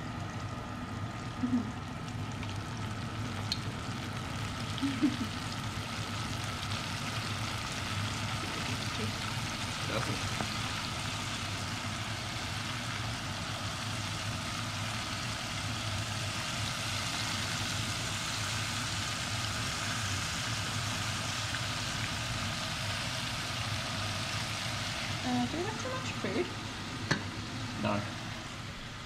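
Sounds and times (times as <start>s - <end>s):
hot oil sizzling: 0.0s - 29.0s.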